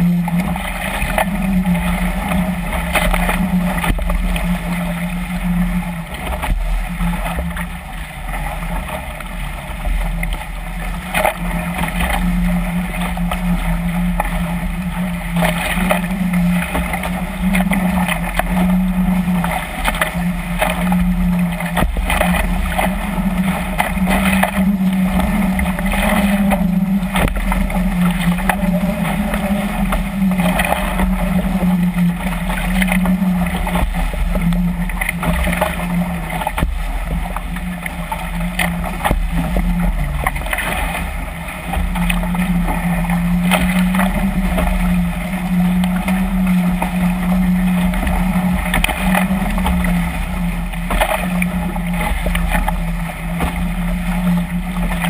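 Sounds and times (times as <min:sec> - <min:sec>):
steady low hum: 0:00.0 - 0:55.0
water splashing against hulls: 0:00.0 - 0:55.0.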